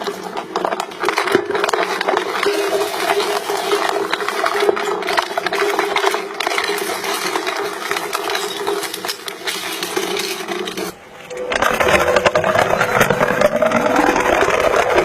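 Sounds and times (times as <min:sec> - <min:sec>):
crushing machine motor hum: 0:00.0 - 0:15.0
material cracking and crunching: 0:00.0 - 0:15.0.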